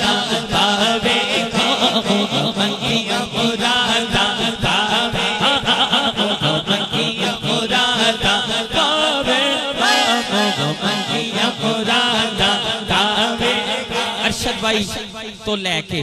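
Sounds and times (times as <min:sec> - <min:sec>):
chanted chorus: 0:00.0 - 0:15.3
man singing through microphone: 0:00.0 - 0:15.5.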